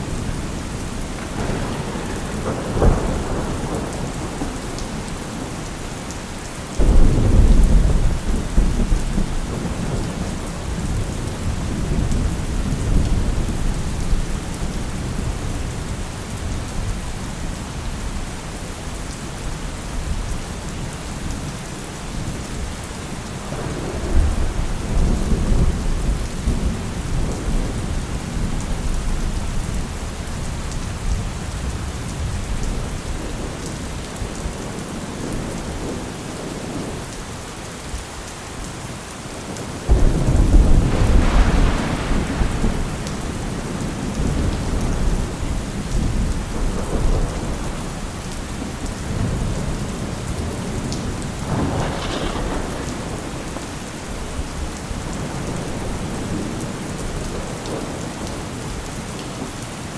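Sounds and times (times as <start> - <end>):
rolling thunder: 0.0 - 6.1, 6.7 - 17.6, 23.5 - 37.0, 39.9 - 58.8
steady rain: 0.0 - 59.9.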